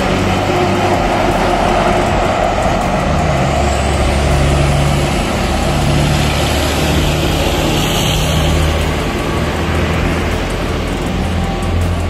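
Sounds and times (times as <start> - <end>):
trucks engine drone: 0.0 - 12.0.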